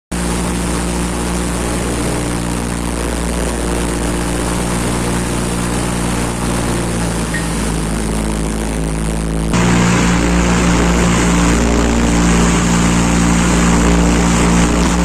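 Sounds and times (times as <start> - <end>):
propeller engine droning: 0.1 - 15.0.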